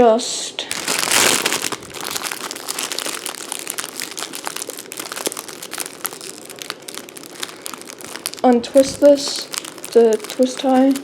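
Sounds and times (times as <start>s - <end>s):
packaging crackling: 0.7s - 11.0s.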